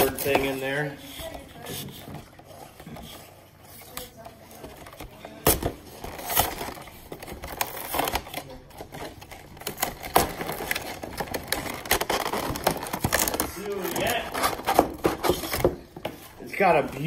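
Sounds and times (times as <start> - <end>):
plastic packaging clicks and crinkles: 0.0 - 17.0.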